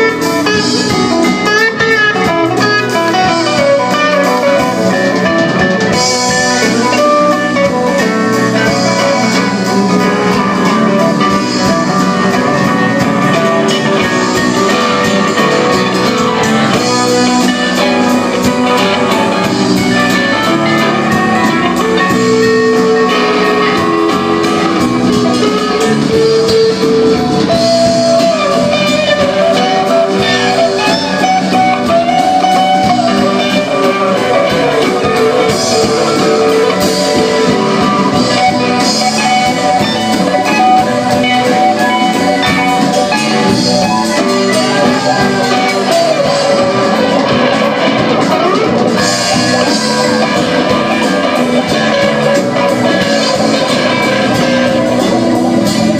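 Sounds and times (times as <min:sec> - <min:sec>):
electric guitar bending notes: 0:00.0 - 0:55.9
live rock band playing: 0:00.0 - 0:55.9.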